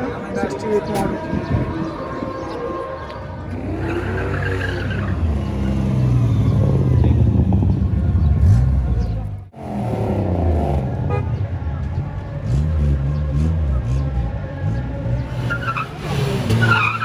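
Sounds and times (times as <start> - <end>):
car engine revving: 0.8 - 17.0.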